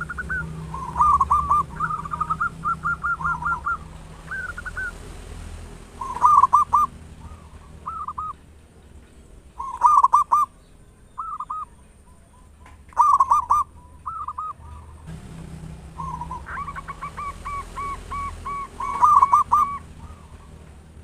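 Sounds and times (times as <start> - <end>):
zebra dove cooing: 0.0 - 4.9, 6.0 - 8.4, 9.6 - 10.6, 11.2 - 15.1, 15.7 - 21.0.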